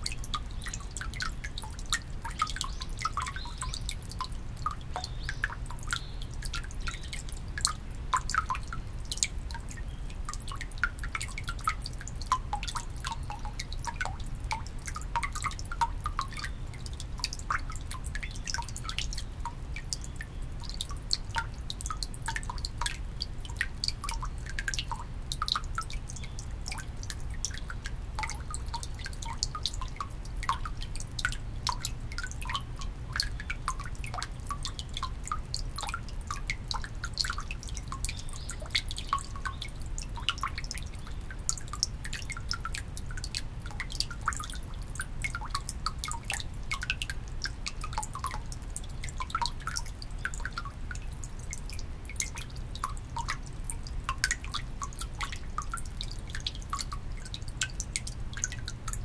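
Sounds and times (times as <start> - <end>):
water dripping into basin: 0.0 - 59.0.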